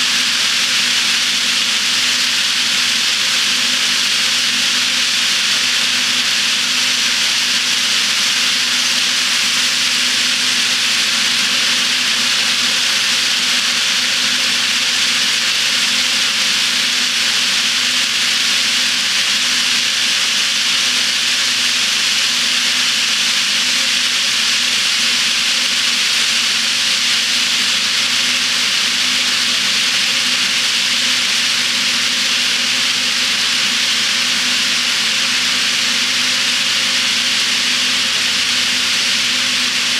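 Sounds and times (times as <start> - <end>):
model train rolling hiss: 0.0 - 39.9.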